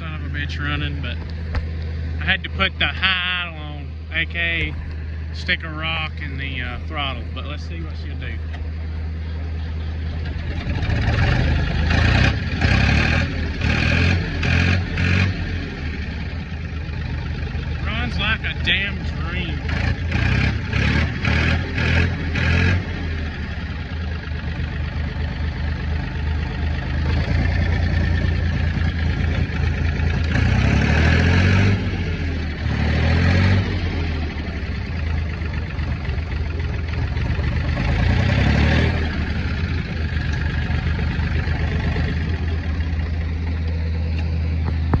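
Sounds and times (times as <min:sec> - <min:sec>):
diesel engine revving: 0:00.0 - 0:45.0.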